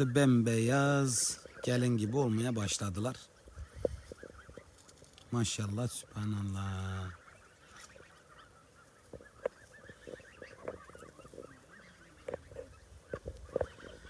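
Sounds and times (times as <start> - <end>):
goslings honking: 0.0 - 14.0
goslings peeping: 0.0 - 14.0.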